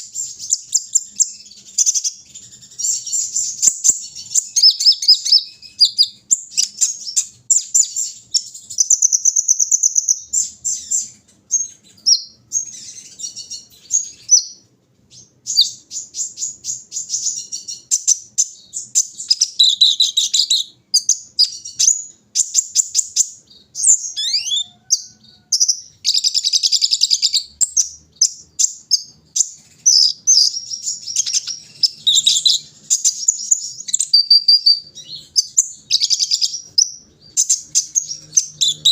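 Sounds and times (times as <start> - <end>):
bird singing high chirps and trills: 0.0 - 38.9.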